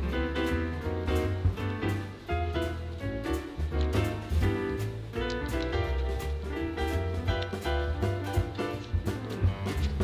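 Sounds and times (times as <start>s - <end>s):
upbeat jazzy music: 0.0s - 10.0s.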